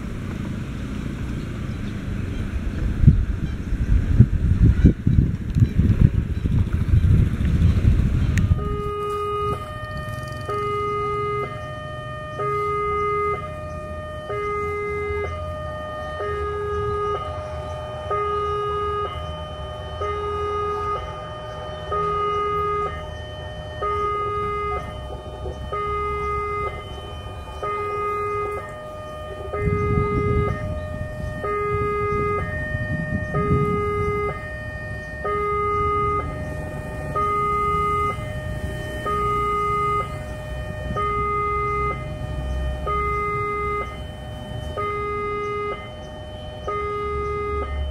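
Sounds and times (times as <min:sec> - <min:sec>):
low rumble: 0:00.0 - 0:17.7, 0:19.3 - 0:44.8
level crossing two-tone alarm: 0:08.4 - 0:47.9.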